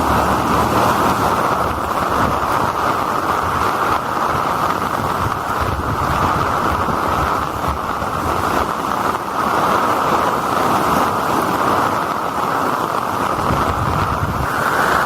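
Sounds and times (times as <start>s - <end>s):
heavy rain: 0.0s - 15.0s
rushing water: 0.0s - 15.0s
wind buffeting microphone: 0.0s - 15.0s.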